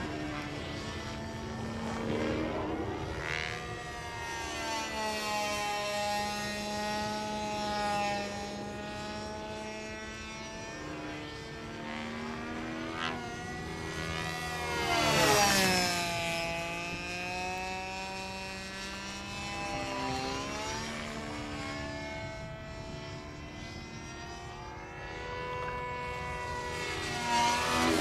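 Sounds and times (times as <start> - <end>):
helicopter swooping: 0.0 - 28.0
model helicopter engine and rotor: 0.0 - 28.0.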